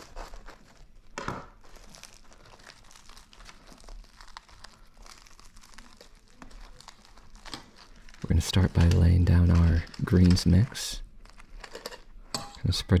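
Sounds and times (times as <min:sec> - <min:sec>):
bread crust crackling: 0:00.0 - 0:12.3.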